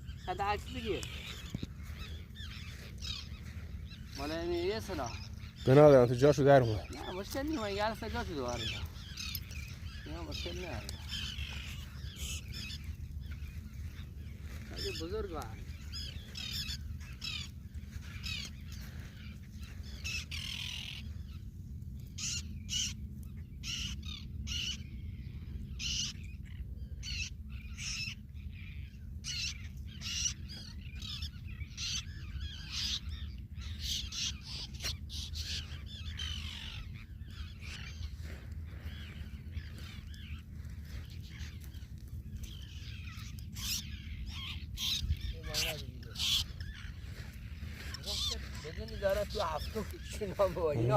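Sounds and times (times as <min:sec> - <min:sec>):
seabirds calling harshly: 0:00.0 - 0:50.9
steady low rumble: 0:00.0 - 0:50.9.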